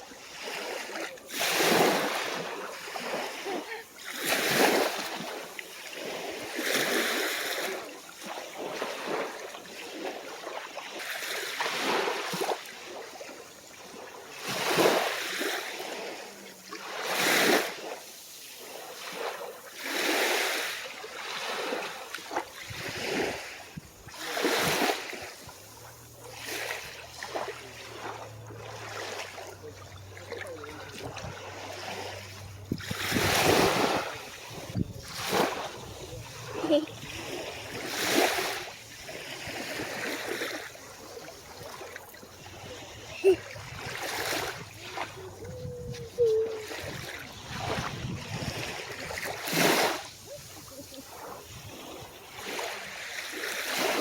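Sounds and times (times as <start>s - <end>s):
ocean waves washing onto beach: 0.0s - 54.0s.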